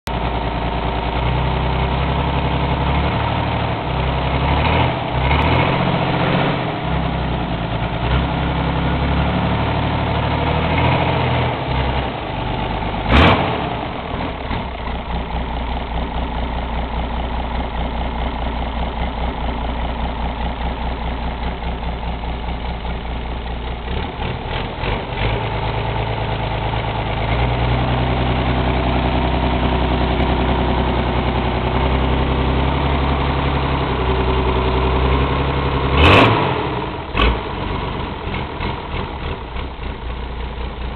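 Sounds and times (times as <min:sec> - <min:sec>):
diesel engine idling: 0:00.1 - 0:40.9.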